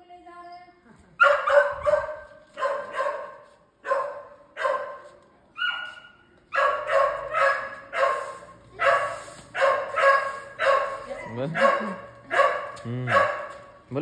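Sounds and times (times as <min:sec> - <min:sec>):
dog barking: 0:01.2 - 0:13.8.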